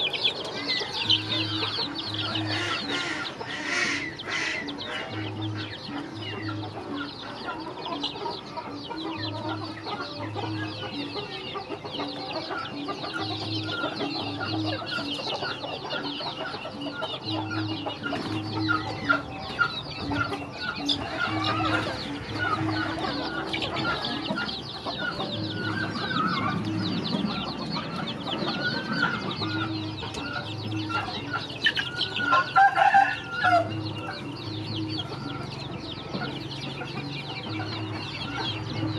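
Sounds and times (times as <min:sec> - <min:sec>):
background music with low pulse: 0:00.0 - 0:38.9
chicks clucking and peeping: 0:00.0 - 0:38.9.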